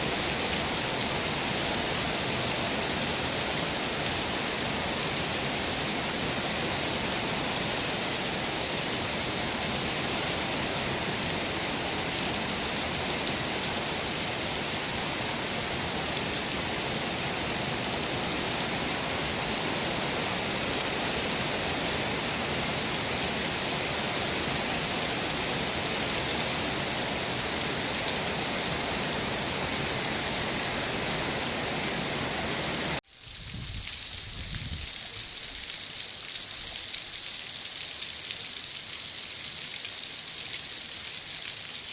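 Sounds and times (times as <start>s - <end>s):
heavy rain falling: 0.0s - 37.2s.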